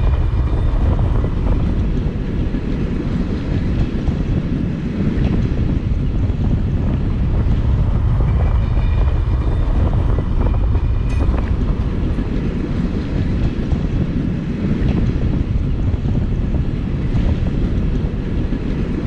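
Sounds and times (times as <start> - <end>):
train running: 0.0 - 19.0
wind buffeting microphone: 0.0 - 19.0.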